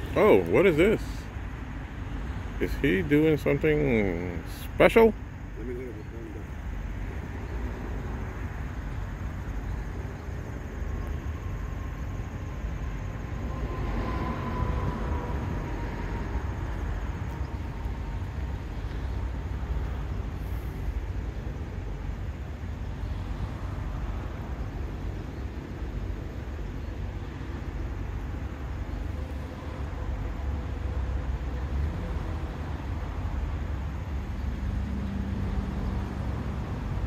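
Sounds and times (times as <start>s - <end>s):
distant road traffic rumble: 0.0s - 37.0s
vehicle passing with faint whine: 0.0s - 37.0s.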